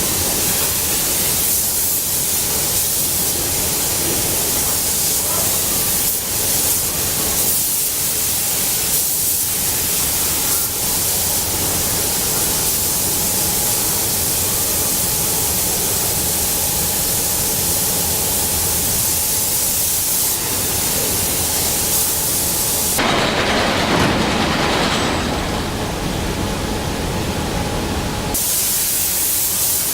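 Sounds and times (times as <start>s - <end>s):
loud factory hissing: 0.0s - 29.9s.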